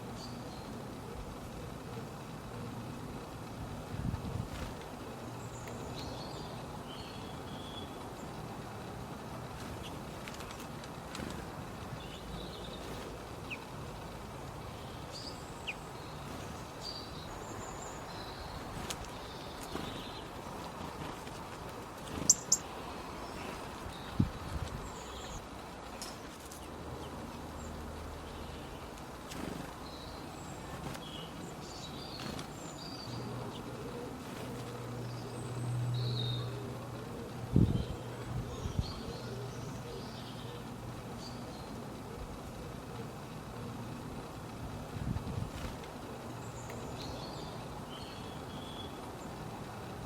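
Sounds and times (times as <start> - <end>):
outdoor ambient hiss: 0.0 - 50.0
small birds chirping: 0.0 - 50.0.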